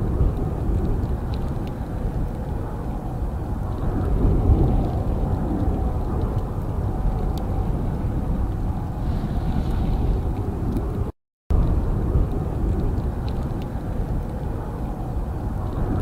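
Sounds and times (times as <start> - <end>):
jet engine rumble: 0.0 - 16.0
wind noise: 0.0 - 16.0.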